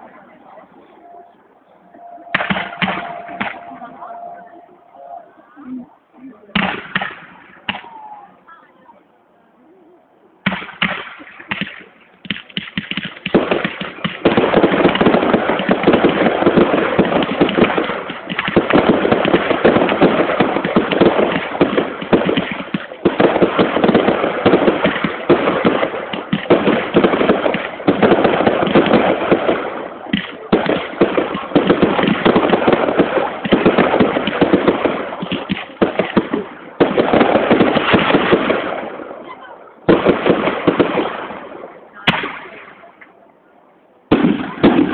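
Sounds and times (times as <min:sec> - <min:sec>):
fireworks bursting and crackling: 0:02.0 - 0:04.5, 0:06.5 - 0:08.2, 0:10.4 - 0:43.2, 0:44.0 - 0:44.9.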